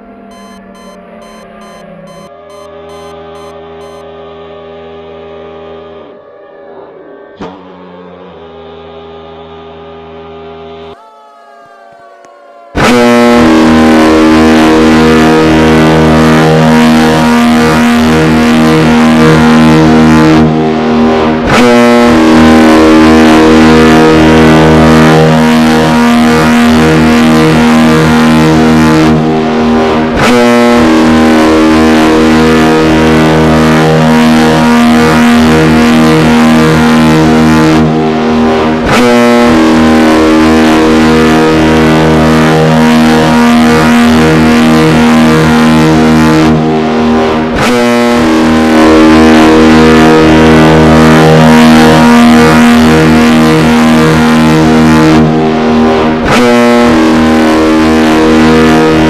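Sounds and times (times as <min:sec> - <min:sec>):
siren long steady tone: 0:00.0 - 0:04.9, 0:12.8 - 0:59.0.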